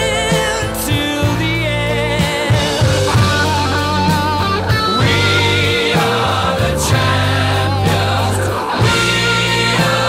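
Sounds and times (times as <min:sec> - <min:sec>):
rock song with guitar and bass: 0:00.0 - 0:10.0.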